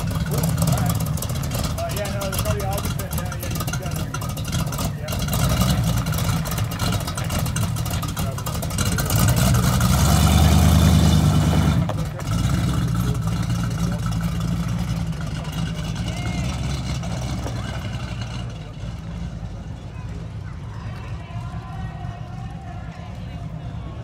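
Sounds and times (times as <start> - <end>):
car engine deep exhaust: 0.0 - 24.0.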